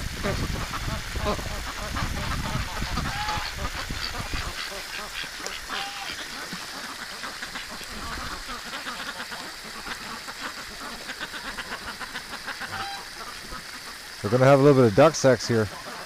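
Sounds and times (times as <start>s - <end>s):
ducks quacking: 0.1s - 16.0s
goose honking: 0.2s - 14.4s.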